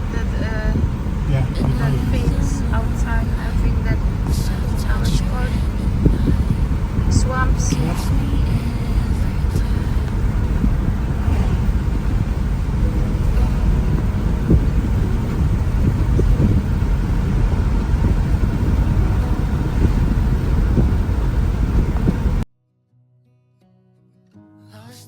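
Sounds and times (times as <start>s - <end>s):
road and engine rumble inside car: 0.0s - 22.4s.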